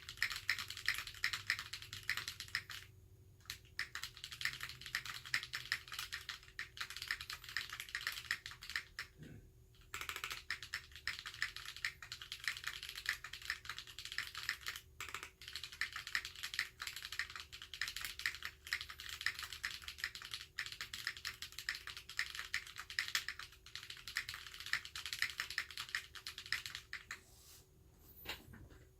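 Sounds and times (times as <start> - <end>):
mechanical keyboard typing: 0.0 - 9.2, 9.8 - 27.2.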